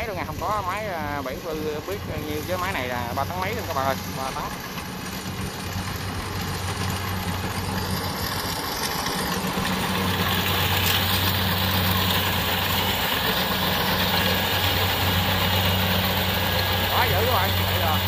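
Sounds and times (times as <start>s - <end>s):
combine harvester engine running: 0.0s - 18.0s.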